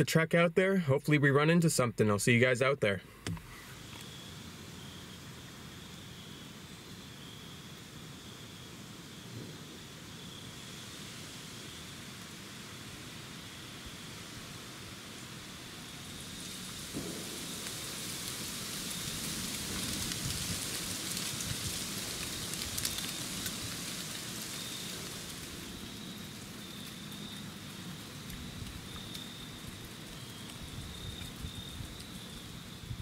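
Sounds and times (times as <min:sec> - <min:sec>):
hissing wash in the trees: 0:03.1 - 0:33.0
high insect trill: 0:03.6 - 0:33.0.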